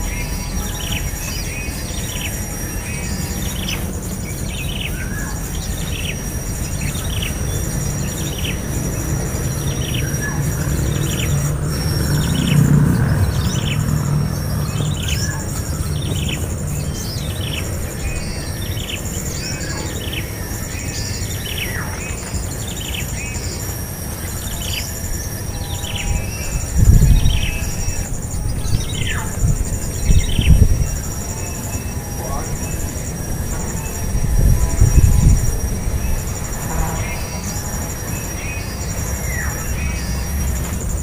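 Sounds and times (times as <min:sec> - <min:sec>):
bird chirping: 0:00.0 - 0:41.0
high insect buzz: 0:00.0 - 0:41.0
pulsing insect trills: 0:00.0 - 0:41.0.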